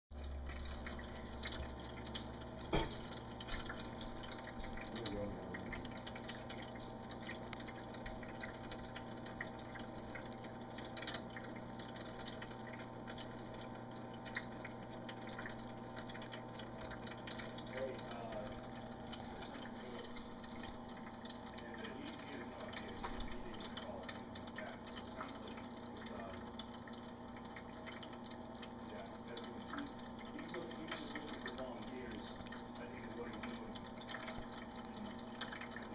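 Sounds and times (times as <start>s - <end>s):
cat chewing and lapping: 0.2s - 35.9s.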